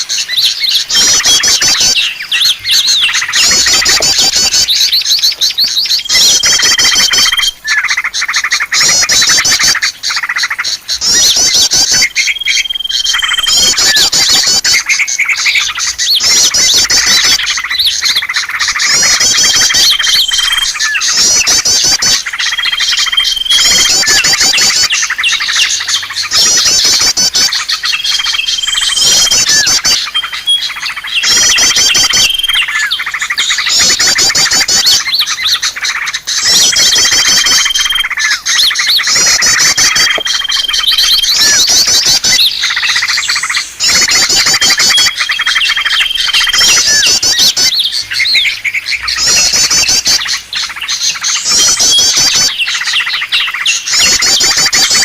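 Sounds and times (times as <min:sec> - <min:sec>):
recorded whistled bird-lure call: 0:00.0 - 0:55.0
small birds chattering: 0:00.0 - 0:55.0.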